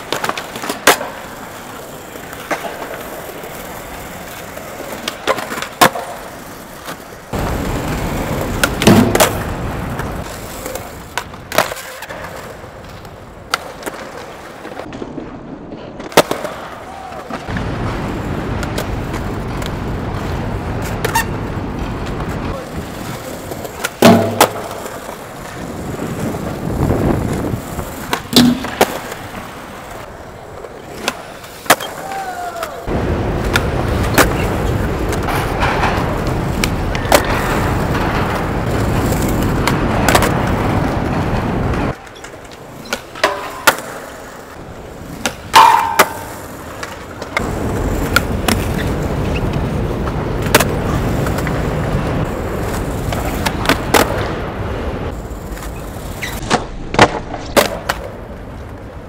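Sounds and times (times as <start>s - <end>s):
skateboard clacking: 0.0s - 59.0s
skateboard wheels rolling on concrete: 0.0s - 59.0s.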